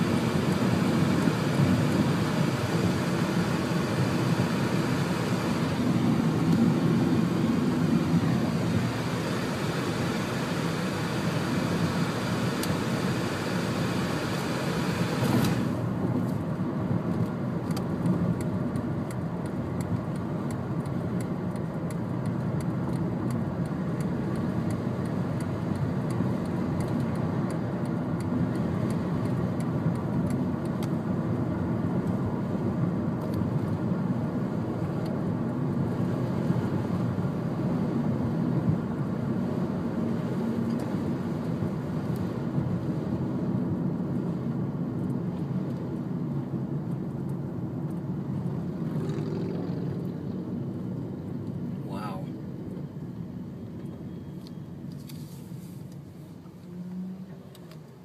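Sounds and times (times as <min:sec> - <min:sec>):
car driving rumble from inside: 0:00.0 - 0:58.0.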